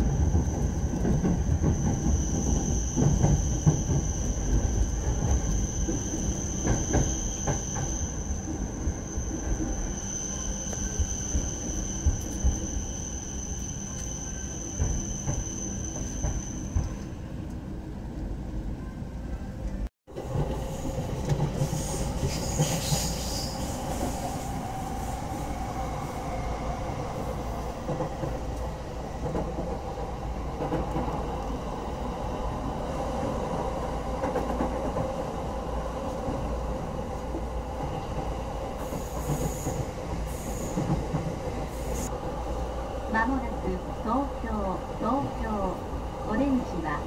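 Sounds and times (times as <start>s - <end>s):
train wheels rumbling on rails: 0.0s - 17.6s, 19.6s - 47.0s.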